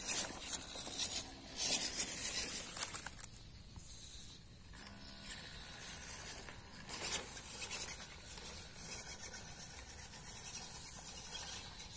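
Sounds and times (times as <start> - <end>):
electric motor and gears whining: 0.0 - 11.9
tyres scraping on dirt: 0.0 - 11.9.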